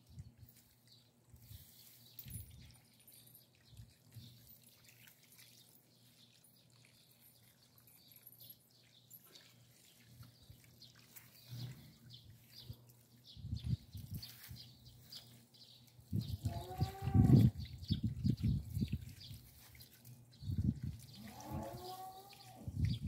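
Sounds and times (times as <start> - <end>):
birds chirping: 0.0 - 23.0
water trickling from a hose: 0.0 - 23.0.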